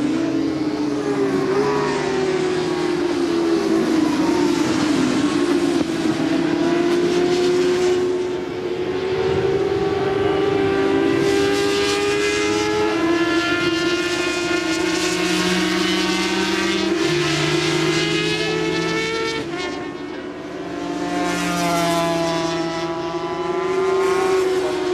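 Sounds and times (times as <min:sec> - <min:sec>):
racing motorcycle engines revving: 0:00.0 - 0:24.9.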